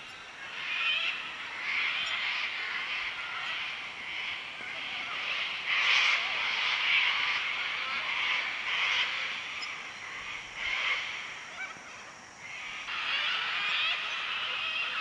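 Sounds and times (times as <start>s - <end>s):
chorus of wild animal calls: 0.0s - 15.0s
short wavering calls: 0.0s - 15.0s.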